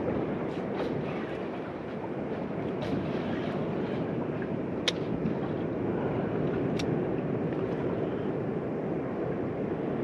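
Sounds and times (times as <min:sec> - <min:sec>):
water noise around boat: 0:00.0 - 0:10.0
wind rumble on microphone: 0:00.0 - 0:10.0.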